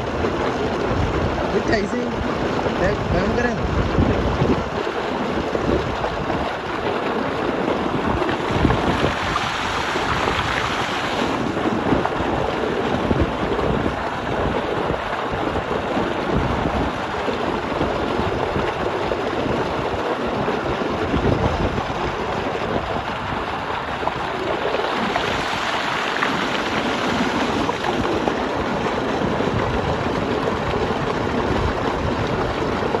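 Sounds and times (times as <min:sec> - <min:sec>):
water gushing into tank: 0:00.0 - 0:33.0.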